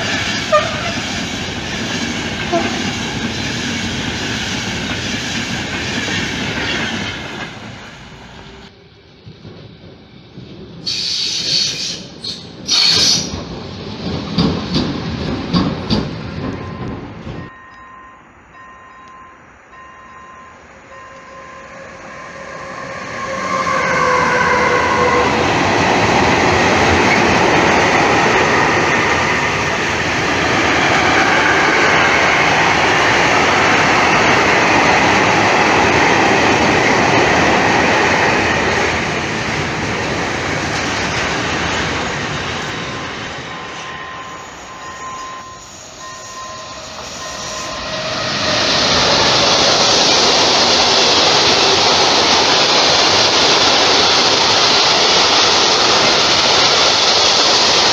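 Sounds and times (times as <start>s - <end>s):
train wheels clattering on rails: 0.0s - 57.9s.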